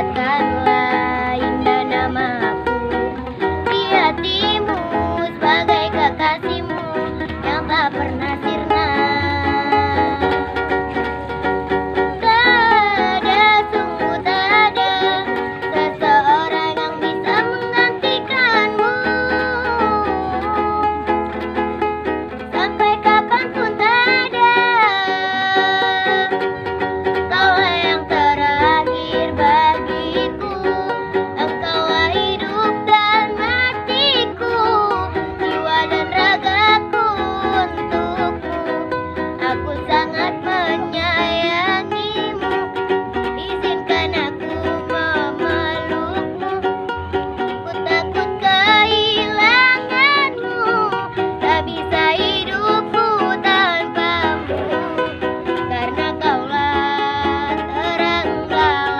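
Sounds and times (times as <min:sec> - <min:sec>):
girl singing: 0:00.0 - 0:58.9
strummed ukulele: 0:00.0 - 0:58.9.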